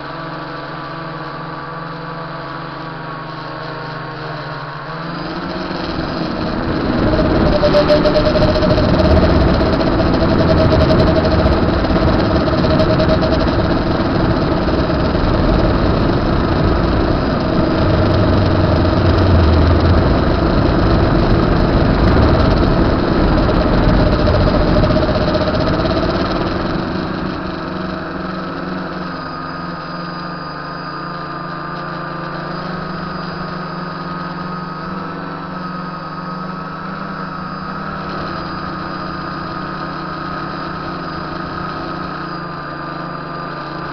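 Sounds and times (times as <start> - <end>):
drone motors and propellers whirring: 0.0 - 43.9.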